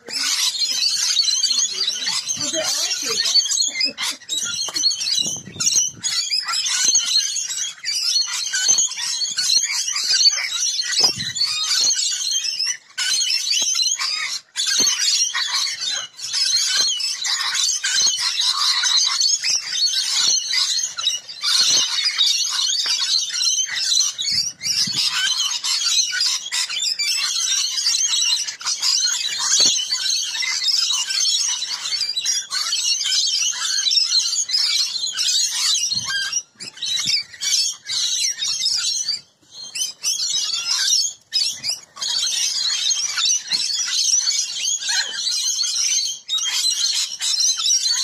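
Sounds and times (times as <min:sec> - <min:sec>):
parrots screeching and chattering: 0:00.0 - 0:48.0.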